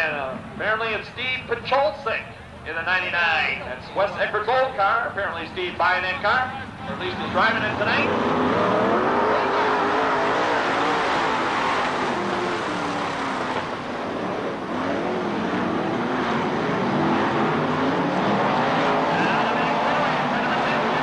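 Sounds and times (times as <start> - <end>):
race car engines on track: 0.0 - 21.0.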